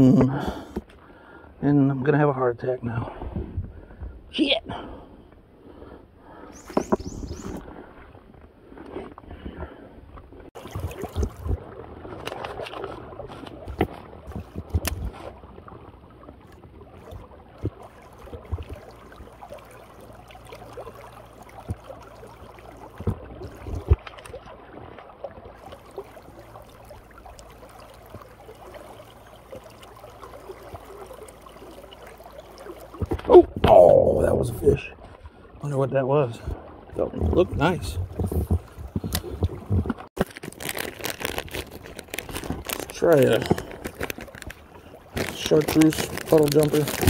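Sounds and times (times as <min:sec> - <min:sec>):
creek water running: 0:00.0 - 0:47.0
wading splashes and knocks: 0:06.6 - 0:47.0.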